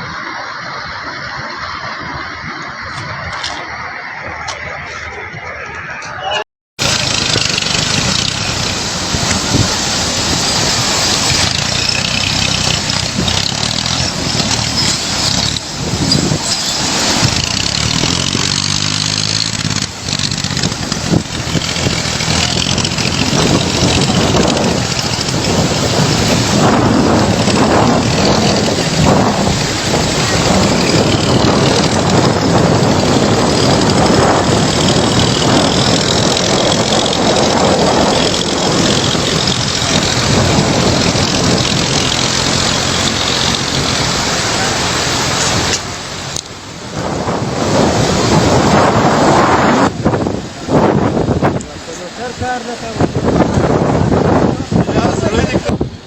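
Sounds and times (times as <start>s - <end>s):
river water roaring: 0.0s - 6.2s, 6.8s - 56.0s.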